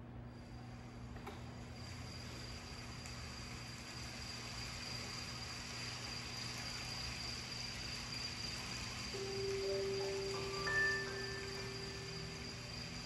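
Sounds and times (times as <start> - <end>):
high-pitched whine: 1.6 - 13.0.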